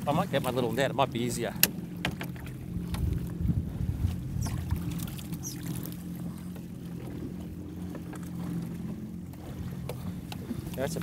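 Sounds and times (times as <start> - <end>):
jet ski engine idling: 0.0 - 11.0
water moving around hull: 0.0 - 11.0.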